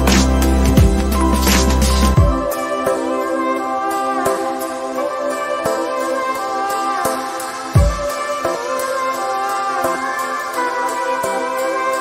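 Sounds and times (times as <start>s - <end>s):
background music with light beat: 0.0s - 12.0s.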